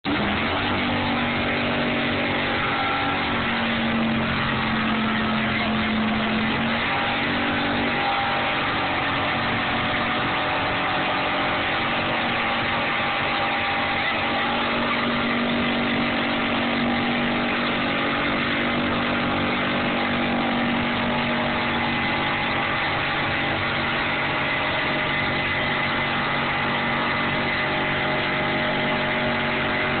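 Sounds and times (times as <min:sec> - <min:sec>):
engine at high revs: 0:00.0 - 0:30.0
tyres screeching: 0:00.1 - 0:30.0.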